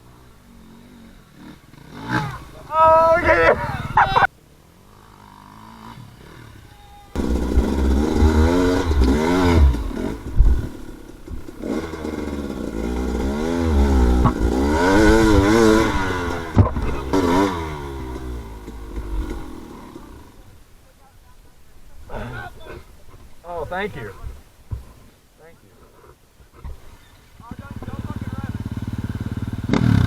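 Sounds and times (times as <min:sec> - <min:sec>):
dirt bike engine revving: 0:00.0 - 0:20.7, 0:26.6 - 0:30.0.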